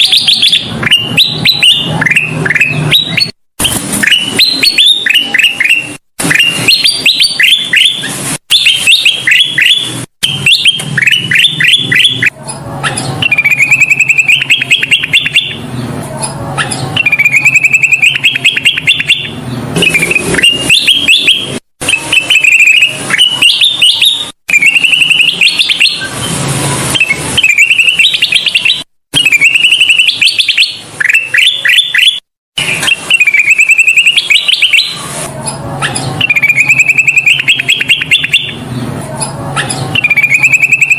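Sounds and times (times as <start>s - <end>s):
bulbul singing bright phrases: 0.0s - 40.9s.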